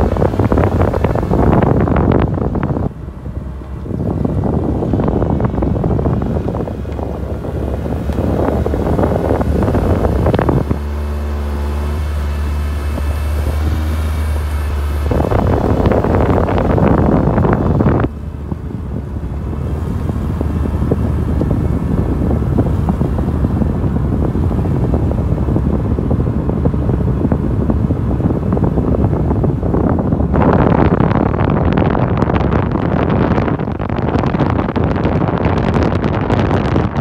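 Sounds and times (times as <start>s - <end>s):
car engine and road rumble: 0.0s - 37.0s
wind on microphone: 0.0s - 37.0s.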